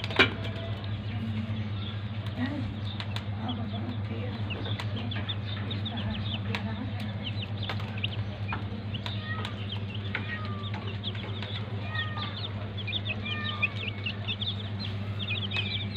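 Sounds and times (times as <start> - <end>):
chicks peeping: 0.0 - 15.9.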